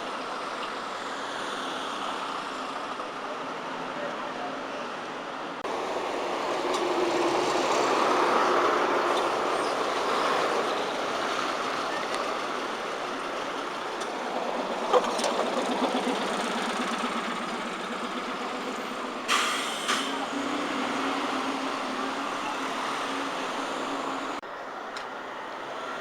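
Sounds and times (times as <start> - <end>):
bus engine and road noise: 0.0 - 26.0.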